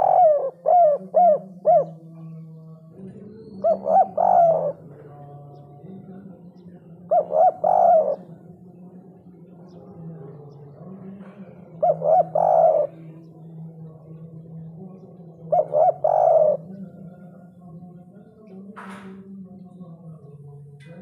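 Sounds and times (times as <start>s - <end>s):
dove cooing: 0.0s - 19.1s.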